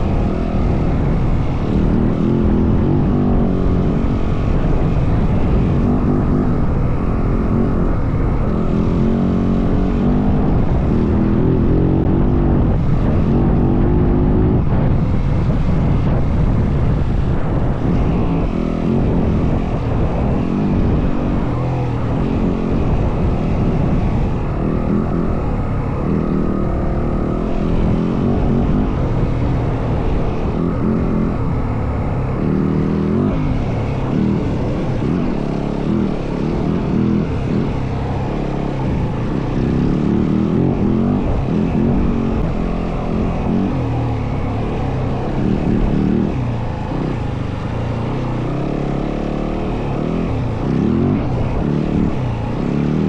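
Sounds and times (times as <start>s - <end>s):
dirt bike engine revving: 0.0s - 53.0s
steady rush of noise: 0.0s - 53.0s.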